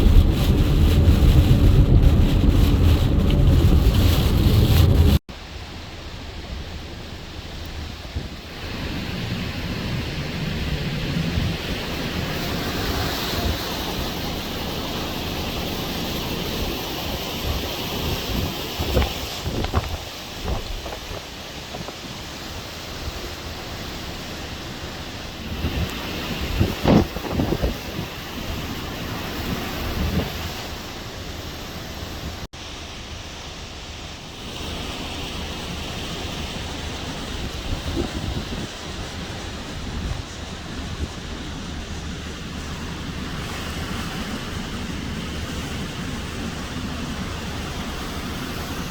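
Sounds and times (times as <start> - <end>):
wind blowing against microphone: 0.0 - 5.2, 6.2 - 32.5, 34.7 - 48.9.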